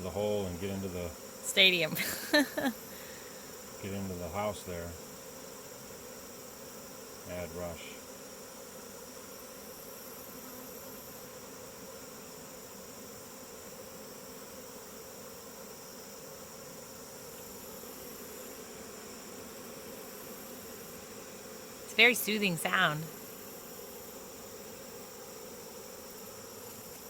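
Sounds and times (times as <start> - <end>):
honeybee swarm buzzing: 0.0 - 27.0.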